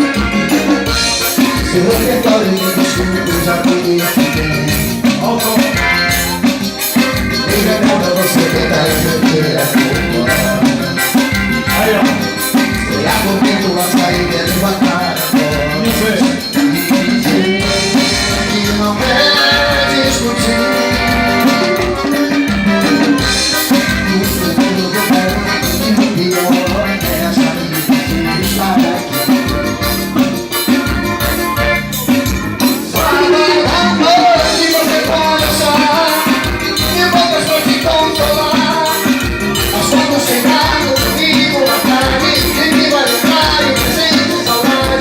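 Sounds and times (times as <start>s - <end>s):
upbeat latin-style music: 0.0s - 45.0s.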